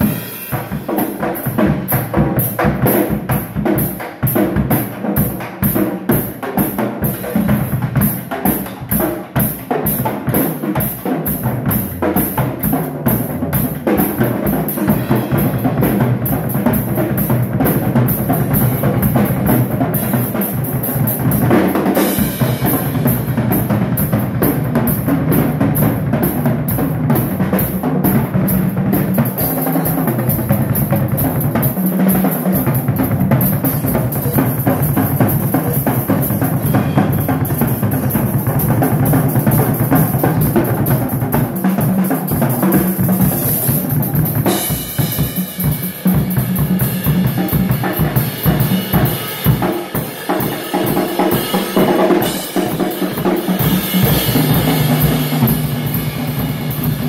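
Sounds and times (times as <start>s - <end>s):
drum kits playing: 0.0s - 57.0s.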